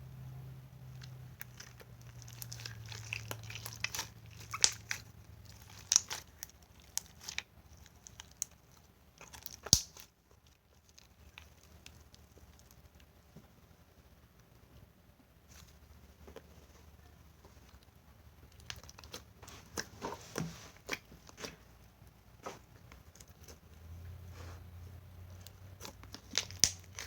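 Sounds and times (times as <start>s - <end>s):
hands kneading sticky putty: 0.9s - 13.1s, 15.5s - 27.0s.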